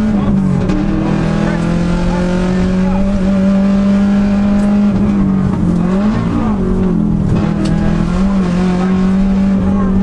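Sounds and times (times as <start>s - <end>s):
car engine at high revs: 0.0s - 10.0s
road and wind noise: 0.0s - 10.0s.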